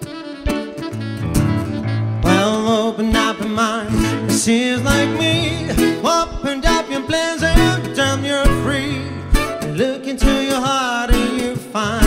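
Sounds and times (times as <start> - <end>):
guitar: 0.0 - 12.0
piano: 0.0 - 12.0
saxophone: 0.0 - 12.0
steady bass: 0.4 - 10.5
person singing: 2.2 - 12.0.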